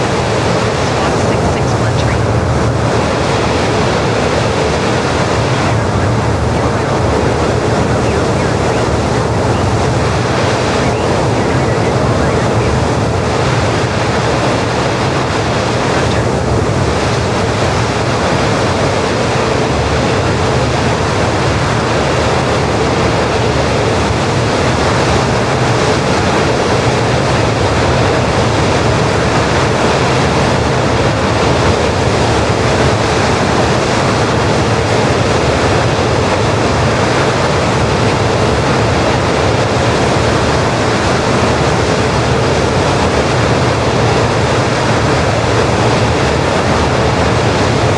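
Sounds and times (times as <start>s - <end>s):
faint high whine: 0.0s - 47.9s
jet engine roar: 0.0s - 47.9s.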